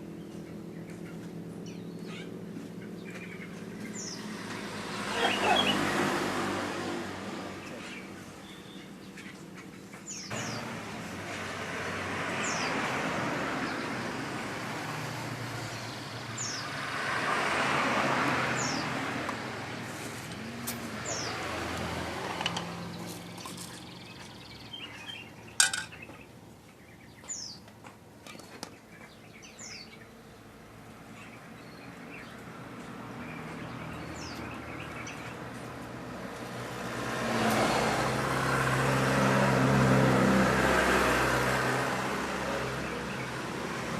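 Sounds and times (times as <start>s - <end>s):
passing vehicles: 0.0s - 43.9s.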